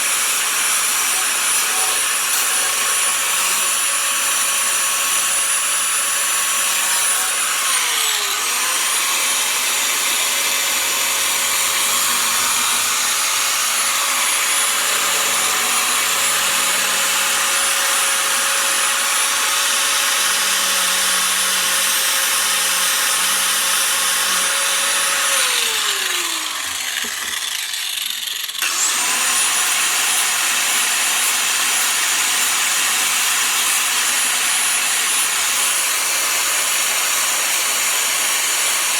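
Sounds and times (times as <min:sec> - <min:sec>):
angle grinder grinding: 0:00.0 - 0:38.9.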